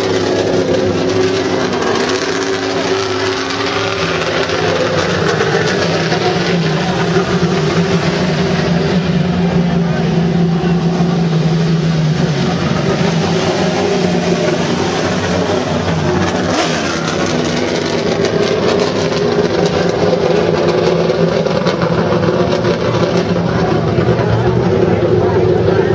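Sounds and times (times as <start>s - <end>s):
car engine at high revs: 0.0s - 25.9s
engine crackles: 0.0s - 25.9s.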